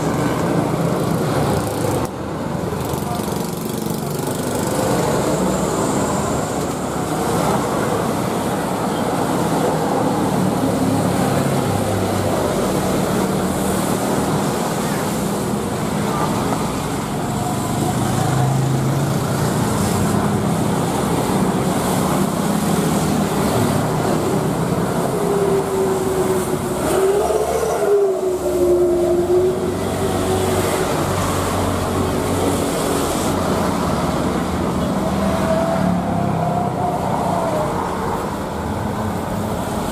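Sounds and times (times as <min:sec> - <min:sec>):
jet engines roaring: 0:04.6 - 0:39.9.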